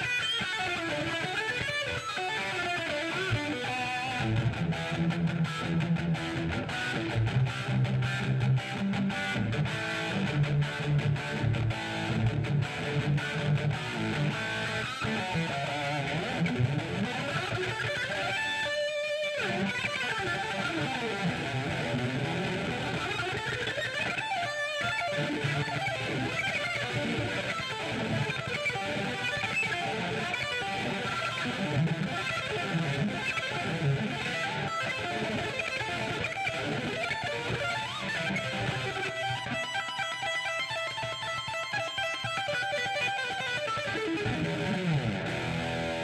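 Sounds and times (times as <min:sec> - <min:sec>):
electric guitar lead notes: 0:00.0 - 0:46.0.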